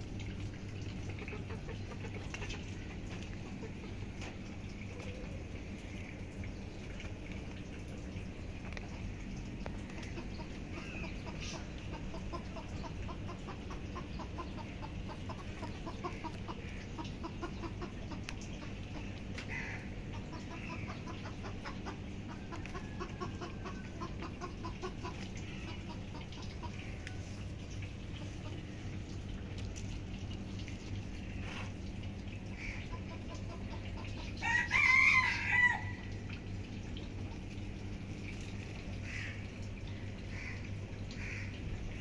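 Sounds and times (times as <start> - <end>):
chickens clucking: 0.4 - 39.5.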